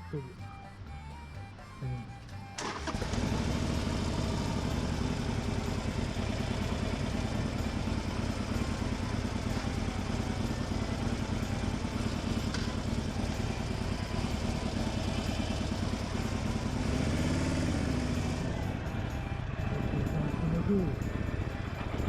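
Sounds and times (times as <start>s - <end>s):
motorcycle engine running: 2.6s - 22.0s.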